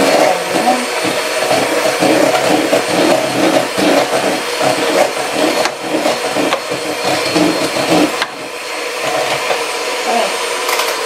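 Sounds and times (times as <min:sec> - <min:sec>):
electric mixer whipping cream: 0:00.0 - 0:11.0.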